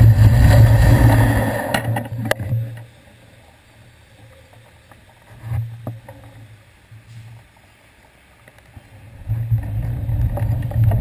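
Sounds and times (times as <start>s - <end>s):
muffled traffic engine hum: 0.0s - 11.0s.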